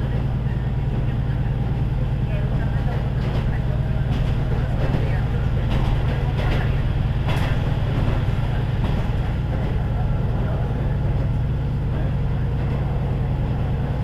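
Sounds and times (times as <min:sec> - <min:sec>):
diesel railcar engine drone: 0:00.0 - 0:14.0.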